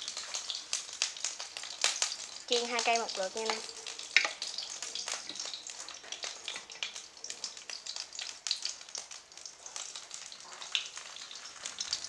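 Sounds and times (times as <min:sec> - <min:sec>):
oil crackling and popping: 0:00.0 - 0:12.0
sausages sizzling in hot oil: 0:00.0 - 0:12.0.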